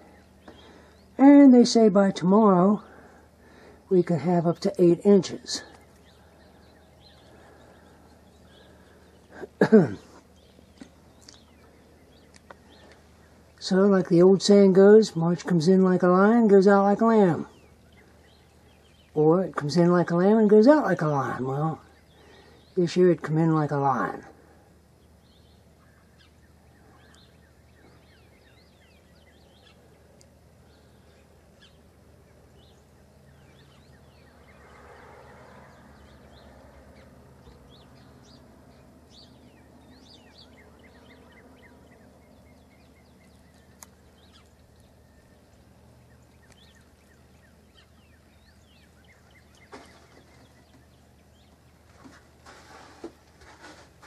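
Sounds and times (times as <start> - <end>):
bird chirps: 0.0 - 24.3, 25.0 - 52.8.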